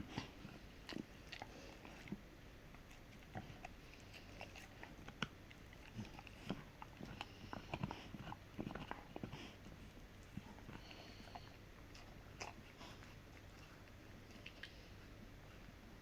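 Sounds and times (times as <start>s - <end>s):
dog gnawing on hard chew: 0.0s - 16.0s.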